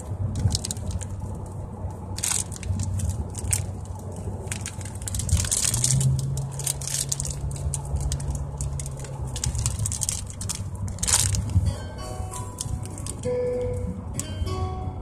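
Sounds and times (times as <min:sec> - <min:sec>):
car cabin road rumble: 0:00.0 - 0:15.0
plastic bag crinkling: 0:00.2 - 0:14.2.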